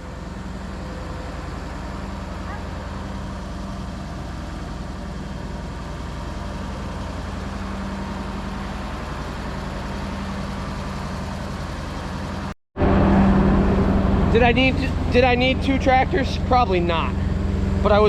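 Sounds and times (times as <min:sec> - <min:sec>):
diesel engine running steadily: 0:00.0 - 0:18.0.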